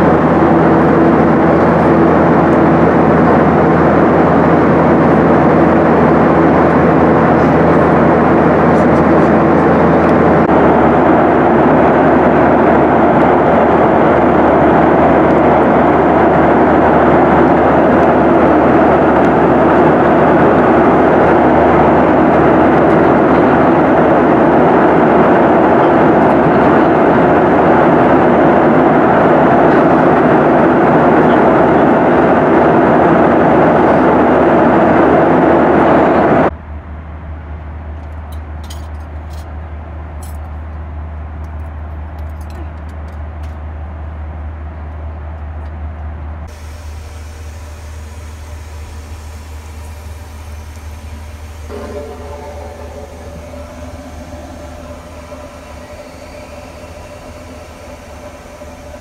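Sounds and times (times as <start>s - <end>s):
jet engine roar in cabin: 0.0s - 59.0s.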